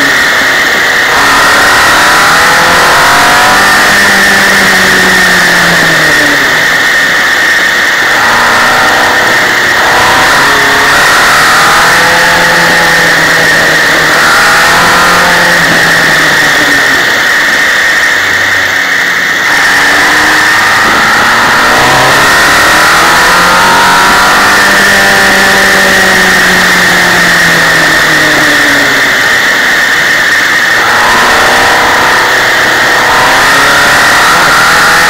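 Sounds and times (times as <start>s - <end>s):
motorcycle engine accelerating: 0.0s - 35.0s
wind and road noise: 0.0s - 35.0s.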